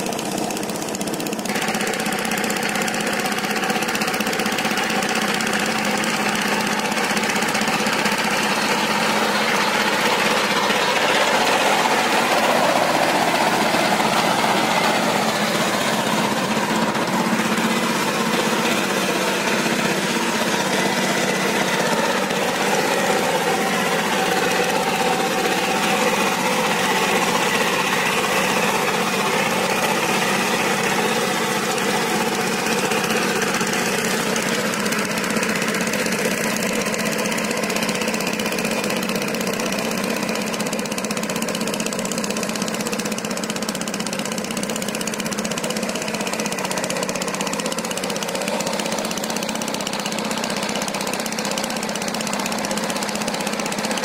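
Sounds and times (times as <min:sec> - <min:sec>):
diesel tiller engine running: 0:00.0 - 0:54.0
rotavator churning mud: 0:00.0 - 0:54.0.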